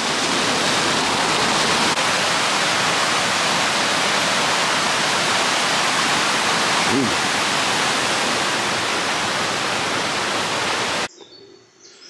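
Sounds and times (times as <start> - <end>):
water rushing and splashing: 0.0 - 11.1.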